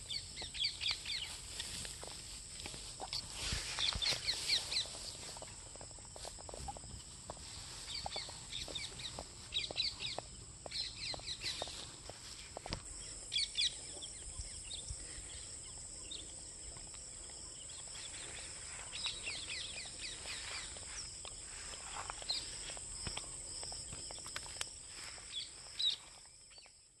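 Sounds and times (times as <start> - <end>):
birds chirping: 0.0 - 2.0, 2.8 - 26.9.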